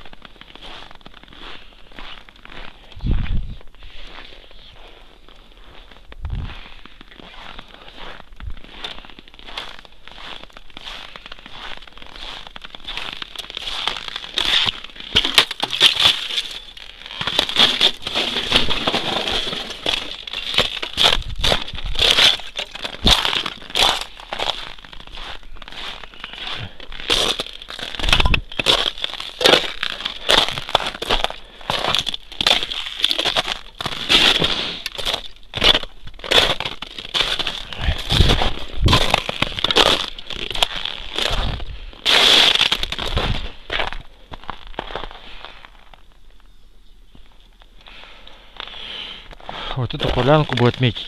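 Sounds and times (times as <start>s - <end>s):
footsteps crunching in dry snow: 0.0s - 46.5s, 47.1s - 51.0s.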